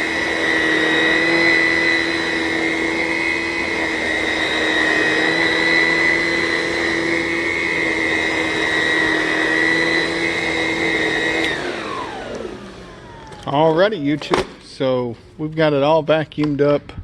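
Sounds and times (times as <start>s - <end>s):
motor winding down: 0.0s - 14.1s
vacuum cleaner whining: 0.0s - 16.0s.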